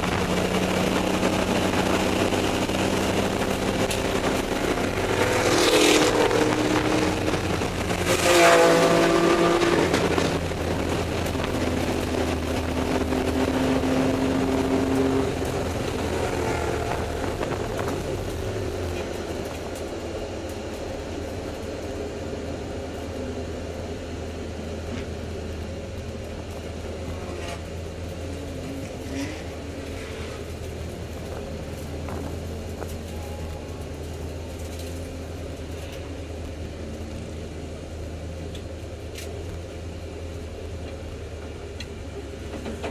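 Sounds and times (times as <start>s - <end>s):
race car engine at low revs: 0.0s - 42.9s
road and tyre noise: 0.0s - 42.9s.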